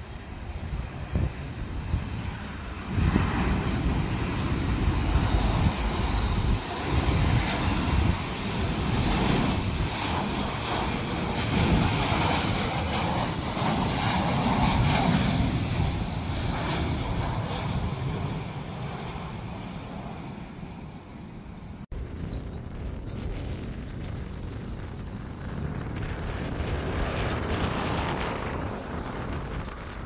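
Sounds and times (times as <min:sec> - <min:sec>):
jet airliner passing low overhead: 0:00.0 - 0:30.0.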